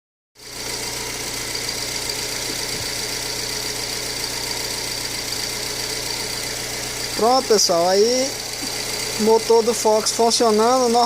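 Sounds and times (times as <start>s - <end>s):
car engine idling: 0.4s - 11.0s.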